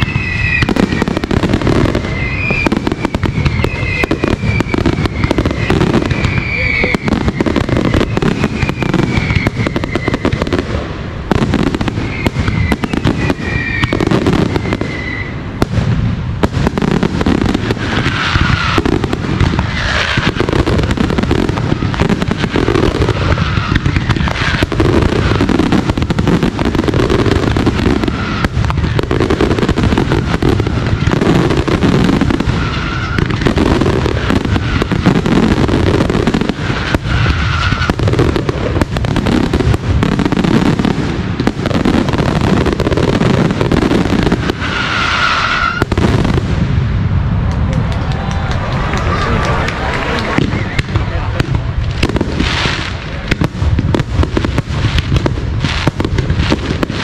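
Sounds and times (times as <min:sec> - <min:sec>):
firework whistles: 0:00.0 - 0:46.6, 0:50.2 - 0:57.0
fireworks bangs and crackling: 0:00.0 - 0:57.0.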